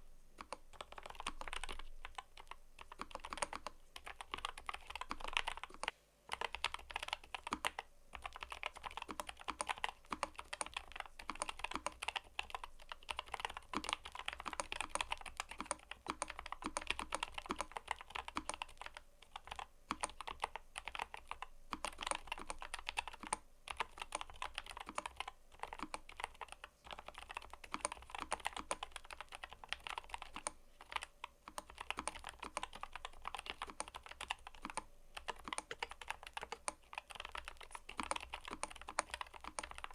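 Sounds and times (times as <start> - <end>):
mechanical keyboard typing: 0.4 - 39.9.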